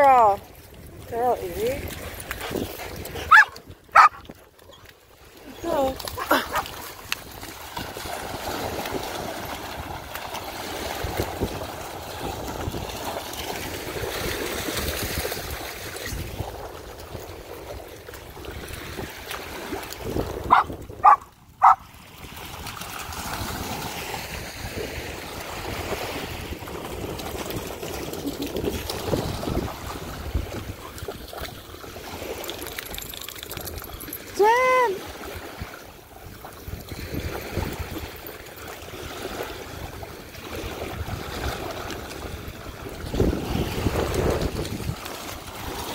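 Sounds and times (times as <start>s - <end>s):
shallow water: 0.0s - 45.9s
wind: 0.0s - 45.9s.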